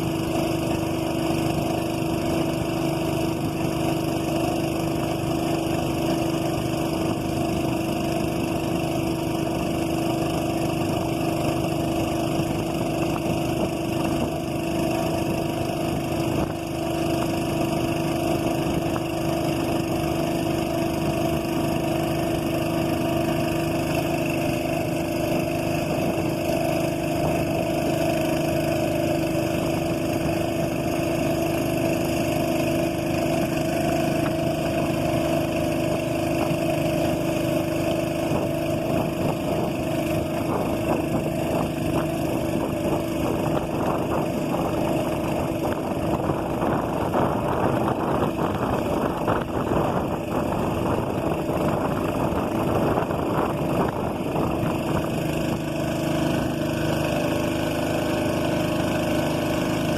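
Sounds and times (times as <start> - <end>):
boat engine droning: 0.0 - 59.9
splashing or wind noise: 0.0 - 59.9.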